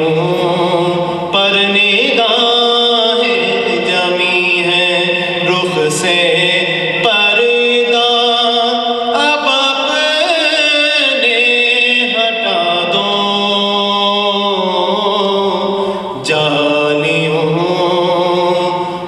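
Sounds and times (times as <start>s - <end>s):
man chanting into a microphone: 0.0s - 19.0s.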